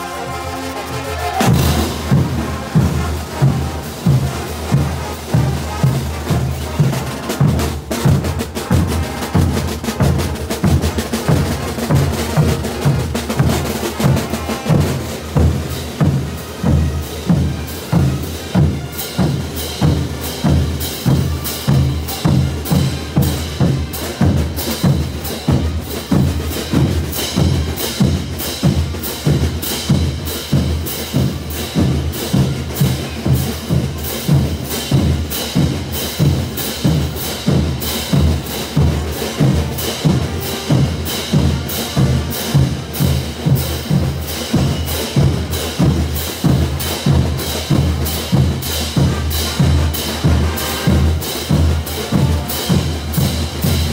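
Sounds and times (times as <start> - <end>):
brass band playing: 0.0 - 53.9
bass drum: 1.4 - 53.9.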